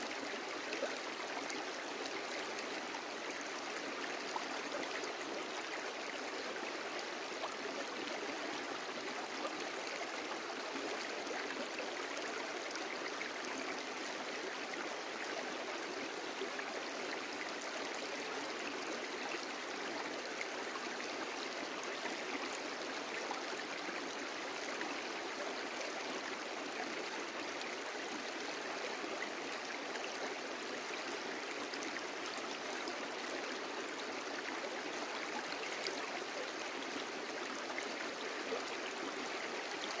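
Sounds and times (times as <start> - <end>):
brook babbling: 0.0 - 40.0.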